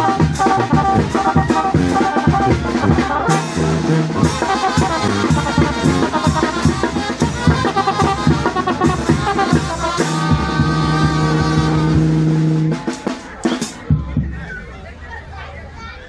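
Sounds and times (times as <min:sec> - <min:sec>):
brass band playing: 0:00.0 - 0:14.7
sousaphone bass: 0:00.0 - 0:15.1
drums: 0:00.0 - 0:16.0.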